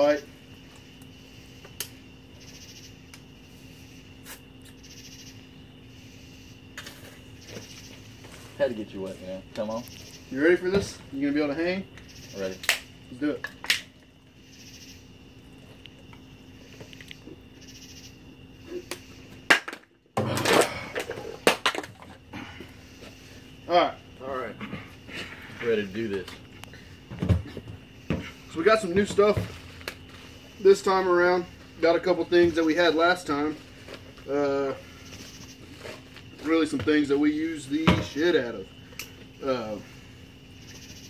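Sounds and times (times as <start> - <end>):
faint steady hum: 0.0 - 41.0
night insects chirping: 0.0 - 41.0.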